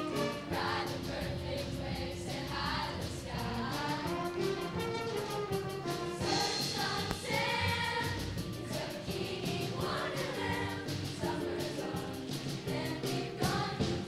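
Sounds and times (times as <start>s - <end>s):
choir singing: 0.0s - 4.8s, 6.1s - 14.0s
accompaniment with steady beat: 0.0s - 14.0s.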